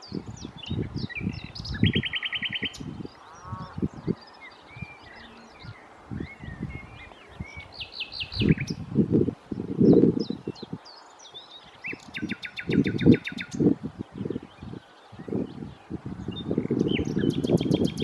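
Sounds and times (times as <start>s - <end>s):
nightingale singing: 0.0s - 18.0s.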